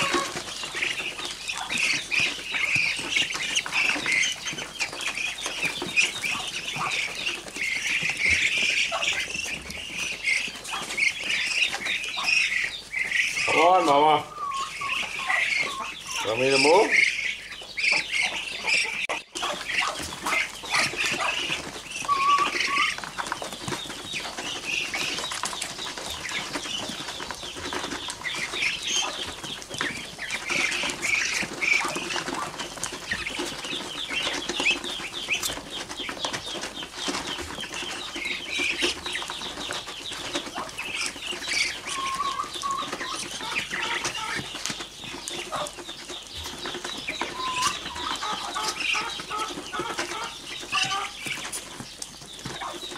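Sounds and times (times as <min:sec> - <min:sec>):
duck bills clicking pecking feed: 0:00.0 - 0:52.9
ducklings peeping: 0:00.0 - 0:52.9.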